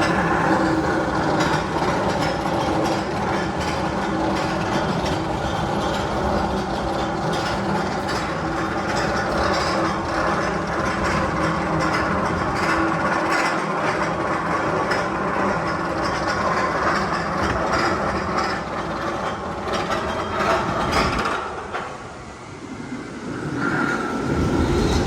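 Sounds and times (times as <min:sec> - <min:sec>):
clattering wheels: 0:00.0 - 0:22.1
roller coaster rumbling on track: 0:00.0 - 0:25.0.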